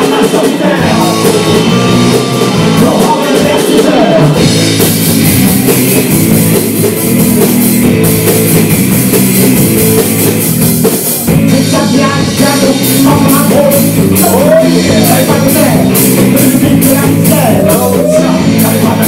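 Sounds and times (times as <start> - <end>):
bass guitar: 0.0 - 19.0
drum kit: 0.0 - 19.0
electric guitars: 0.0 - 19.0.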